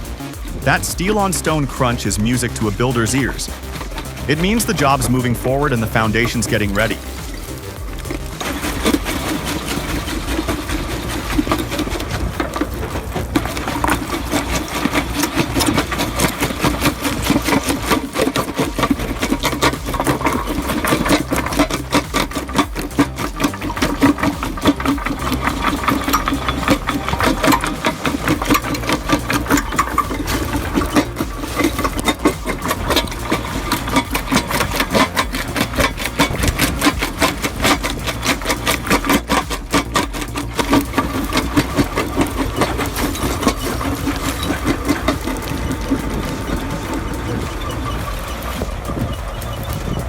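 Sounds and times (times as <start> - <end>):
crunching and clattering: 0.0 - 50.0
machinery engine hum: 0.0 - 50.0.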